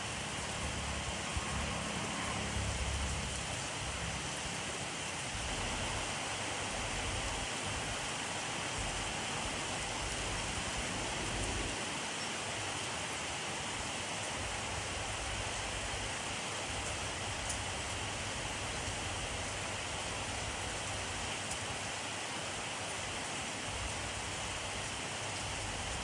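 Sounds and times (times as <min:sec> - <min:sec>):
rainfall: 0:00.0 - 0:26.0.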